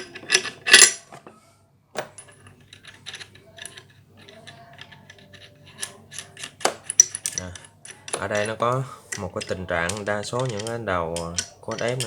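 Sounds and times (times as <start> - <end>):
metal dies clicking and rattling: 0.0 - 1.0, 2.2 - 12.0.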